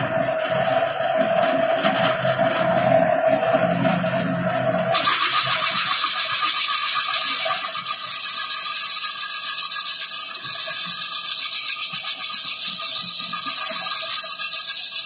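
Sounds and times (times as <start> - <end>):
wood lathe rasping: 0.0 - 15.0.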